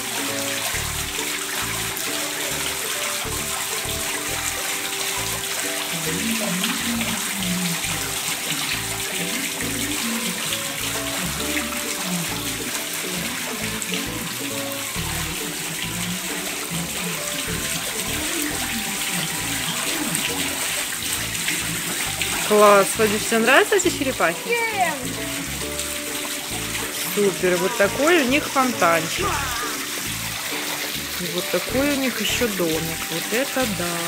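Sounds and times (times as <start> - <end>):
background music: 0.0 - 34.0
fountain splashing water: 0.0 - 34.0.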